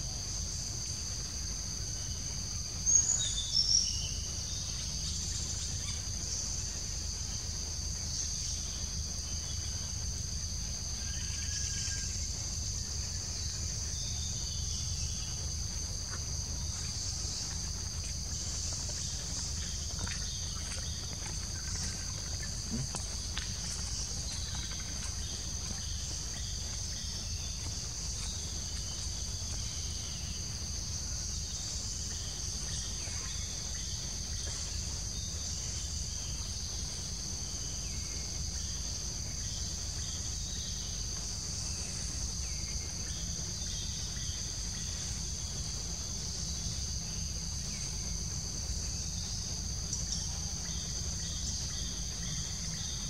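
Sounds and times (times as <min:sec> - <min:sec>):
insect chorus drone: 0:00.0 - 0:53.0
low steady rumble: 0:00.0 - 0:53.0.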